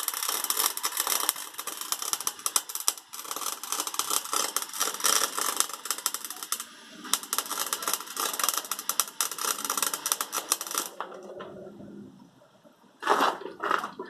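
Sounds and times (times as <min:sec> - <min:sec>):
welder arc crackling: 0:00.0 - 0:11.5.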